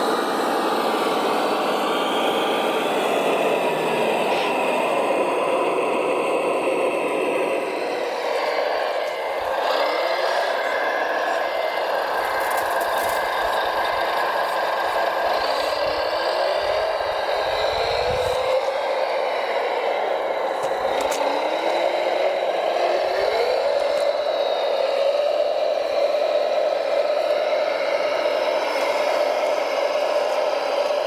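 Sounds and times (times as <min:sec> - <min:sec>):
model truck motor whining: 0:00.0 - 0:31.0.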